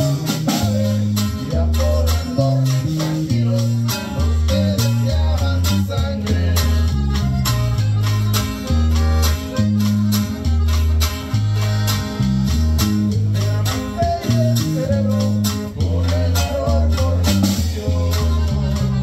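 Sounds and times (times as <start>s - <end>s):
button accordion melody: 0.0s - 19.0s
electric bass notes: 0.0s - 19.0s.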